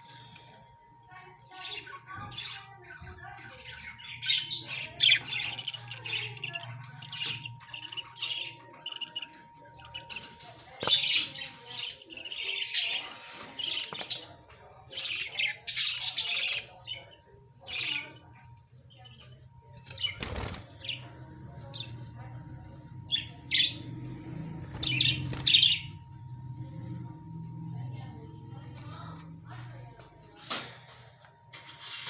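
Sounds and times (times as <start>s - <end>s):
parrots squawking and chirping: 0.0s - 32.0s.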